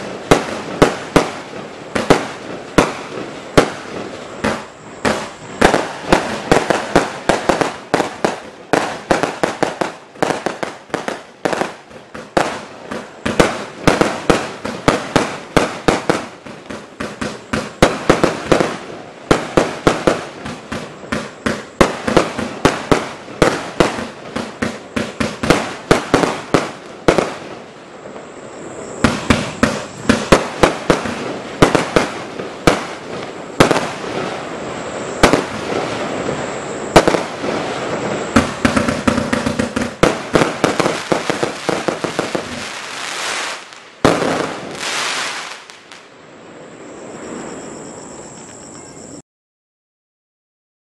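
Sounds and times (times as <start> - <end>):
fireworks launching and bursting: 0.0 - 47.5
fireworks hiss: 0.0 - 48.6.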